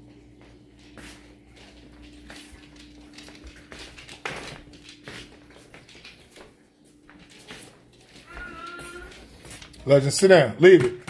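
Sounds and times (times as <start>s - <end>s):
footsteps on wooden floor: 0.3s - 9.9s.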